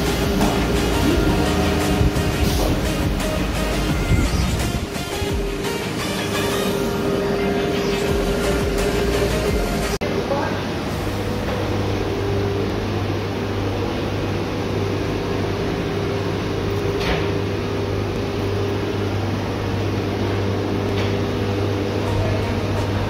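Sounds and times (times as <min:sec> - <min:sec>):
workshop machinery humming: 0:00.0 - 0:23.0.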